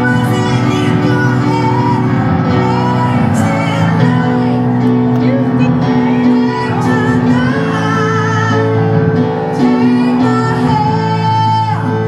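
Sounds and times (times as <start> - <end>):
person singing: 0.0 - 12.0
piano playing: 0.0 - 12.0.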